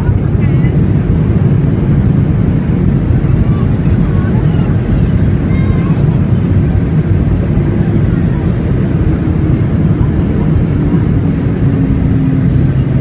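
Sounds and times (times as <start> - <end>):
aircraft cabin rumble: 0.0 - 13.0
engine hum falling in pitch: 0.0 - 13.0.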